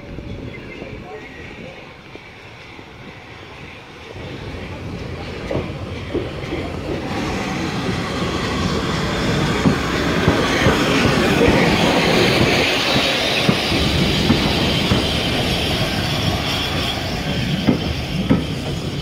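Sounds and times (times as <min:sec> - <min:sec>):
steam train rumbling on rails: 0:00.0 - 0:19.0.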